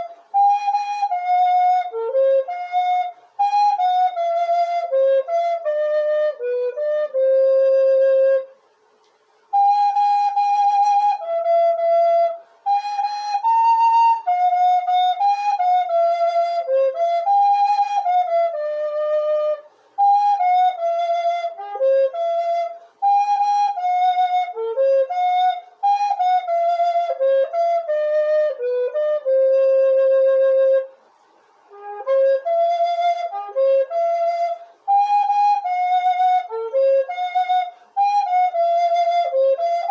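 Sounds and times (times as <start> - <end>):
solo flute melody: 0.0 - 39.9.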